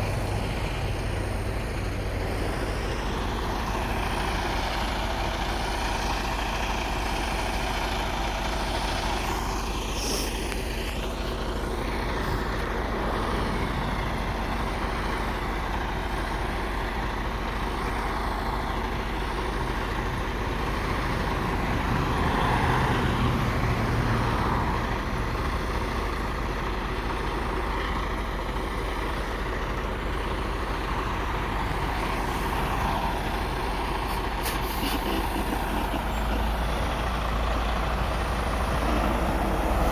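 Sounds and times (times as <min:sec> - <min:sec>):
diesel truck engines running: 0:00.0 - 0:39.9
road traffic noise: 0:00.0 - 0:39.9.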